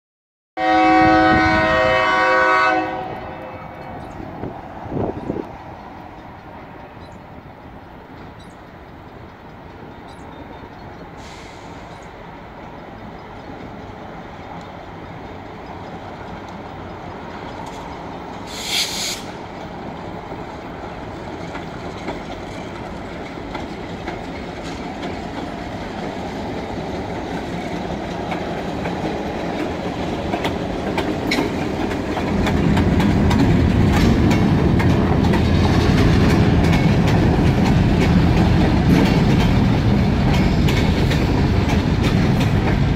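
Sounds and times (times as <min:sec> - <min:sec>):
diesel freight train passing: 0:00.6 - 0:42.9.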